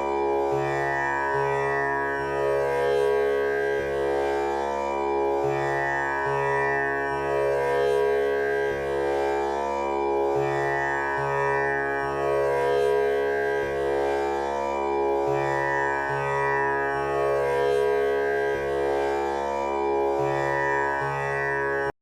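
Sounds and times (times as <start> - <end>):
tanpura drone with plucked strings: 0.0 - 22.0.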